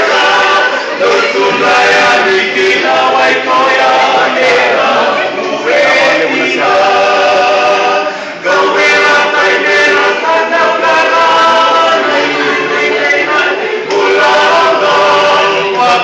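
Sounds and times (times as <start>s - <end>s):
vocal group singing in harmony: 0.0s - 16.0s.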